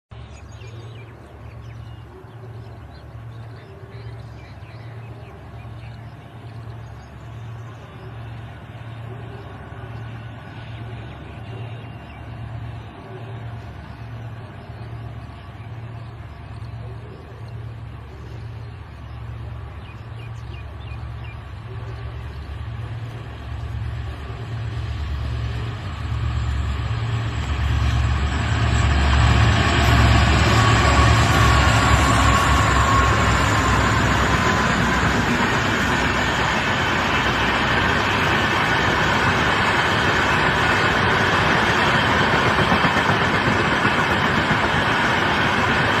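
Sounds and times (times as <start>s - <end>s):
train running past: 0.1s - 46.0s
locomotive engine throbbing: 2.7s - 46.0s.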